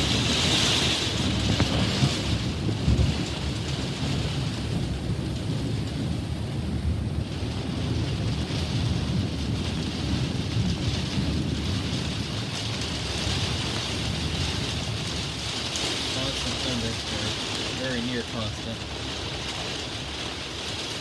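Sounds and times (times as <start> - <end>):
low rolling thunder: 0.0 - 21.0
steady rain: 0.0 - 21.0.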